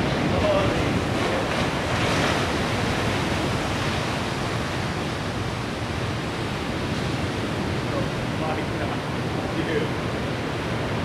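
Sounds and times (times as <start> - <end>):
big waves breaking: 0.0 - 11.0.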